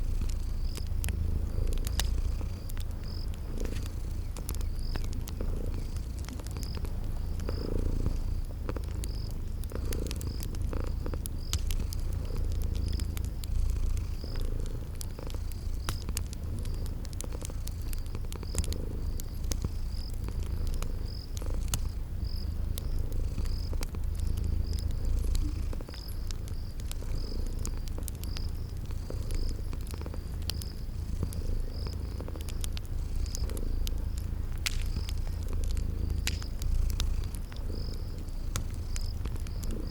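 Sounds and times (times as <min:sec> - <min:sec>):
cat purring: 0:00.0 - 0:39.9
crickets chirping: 0:00.0 - 0:39.9
wood fire crackling: 0:00.0 - 0:39.9.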